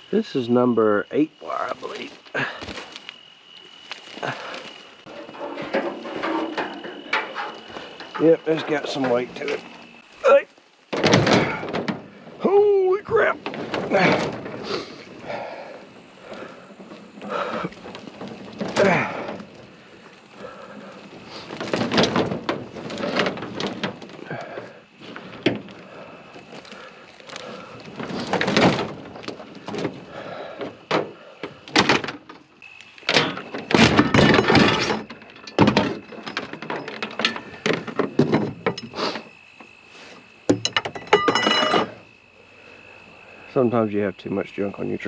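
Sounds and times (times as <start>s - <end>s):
scrap metal clunking and rattling: 4.0s - 10.2s, 10.9s - 42.1s.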